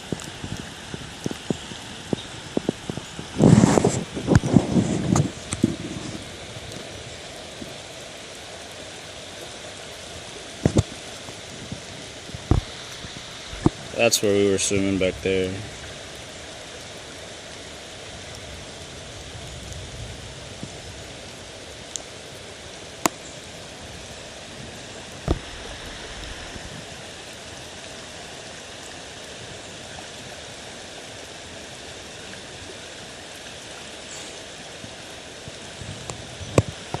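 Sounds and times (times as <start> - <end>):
river water rushing: 0.0 - 19.2, 19.9 - 37.0.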